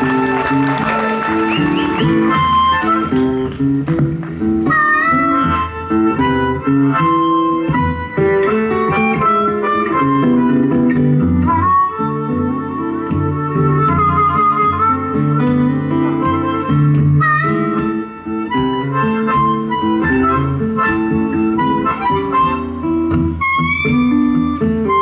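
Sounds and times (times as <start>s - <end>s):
blues harmonica solo: 0.0s - 25.0s.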